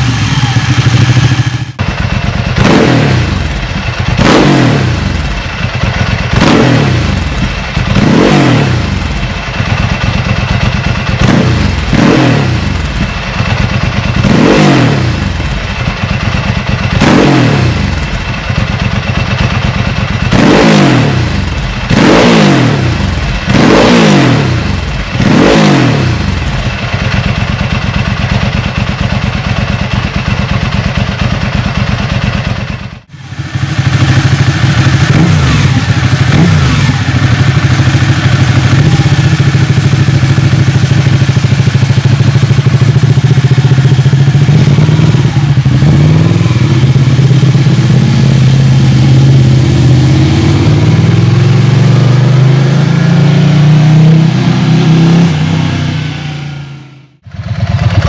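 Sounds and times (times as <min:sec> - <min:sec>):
motorcycle engine revving and idling: 0:00.0 - 0:58.0.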